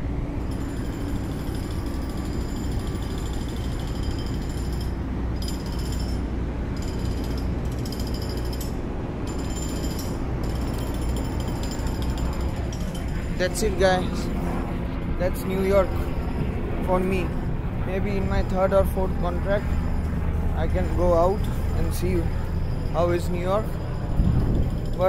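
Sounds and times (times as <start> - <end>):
machinery hum with rattle: 0.0 - 25.0
thin high whine: 0.0 - 25.0.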